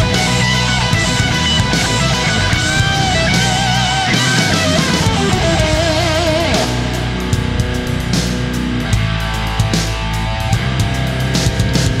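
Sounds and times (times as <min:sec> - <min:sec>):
rock guitar music: 0:00.0 - 0:12.0
steady drum beat: 0:00.0 - 0:12.0.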